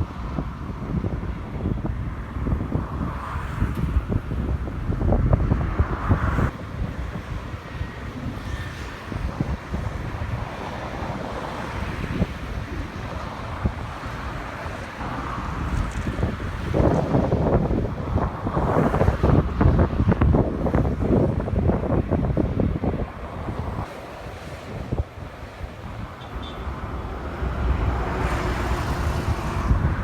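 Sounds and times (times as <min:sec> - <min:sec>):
wind buffeting microphone: 0:00.0 - 0:30.0
waves on a rough lake: 0:03.8 - 0:30.0.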